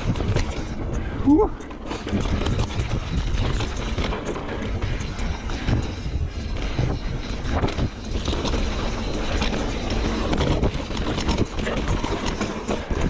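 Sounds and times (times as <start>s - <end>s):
bike clicks and rattles: 0.0s - 13.0s
bike tyres rumbling on dirt: 0.0s - 13.0s
wind buffeting microphone: 0.0s - 13.0s.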